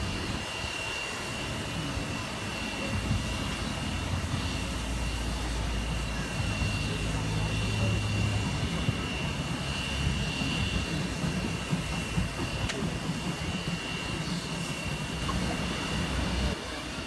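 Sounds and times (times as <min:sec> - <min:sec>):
locomotive low rumble: 0:00.0 - 0:17.0.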